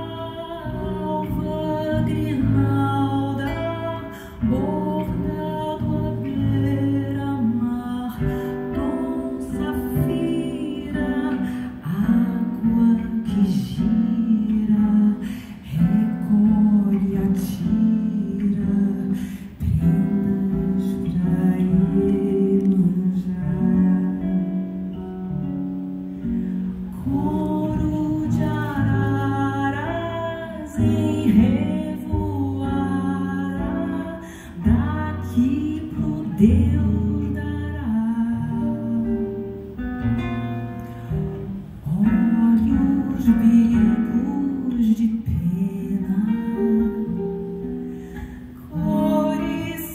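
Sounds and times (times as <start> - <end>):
acoustic guitar: 0.0 - 49.9
woman singing into a microphone: 0.0 - 49.9.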